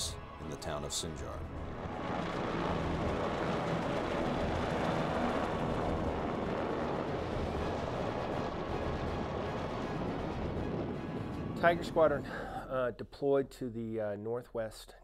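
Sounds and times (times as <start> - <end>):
helicopter rotor and engine: 0.0 - 12.6.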